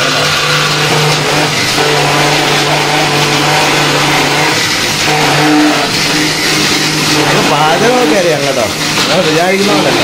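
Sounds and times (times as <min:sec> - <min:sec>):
mixer grinder running: 0:00.0 - 0:10.0.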